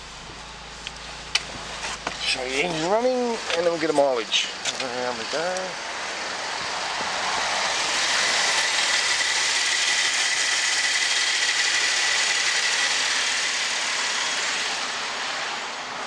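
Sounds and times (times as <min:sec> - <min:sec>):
car engine idling: 0:00.0 - 0:16.0
steady high whine: 0:00.0 - 0:16.0.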